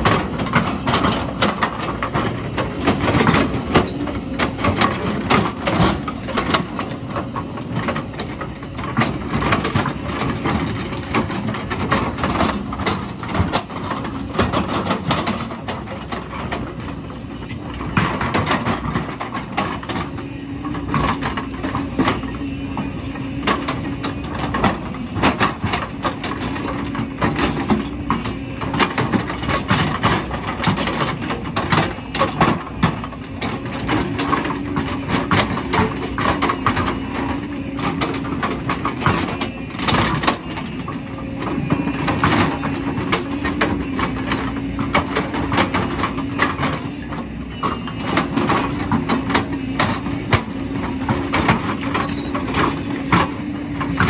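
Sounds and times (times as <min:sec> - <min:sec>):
excavator engine and hydraulics hum: 0:00.0 - 0:54.0.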